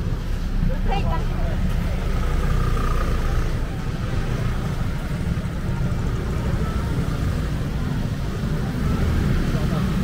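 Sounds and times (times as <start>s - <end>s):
faint voices of passers-by: 0.0s - 10.0s
low street rumble: 0.0s - 10.0s.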